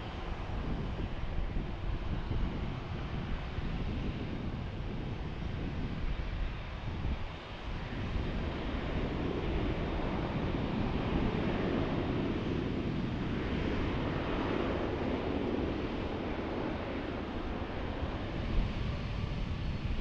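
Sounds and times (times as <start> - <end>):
distant jet engines rushing: 0.0 - 20.0.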